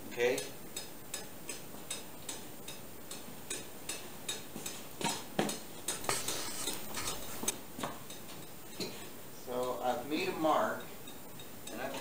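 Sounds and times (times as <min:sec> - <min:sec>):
steady light ticking: 0:00.1 - 0:08.8, 0:09.4 - 0:12.0.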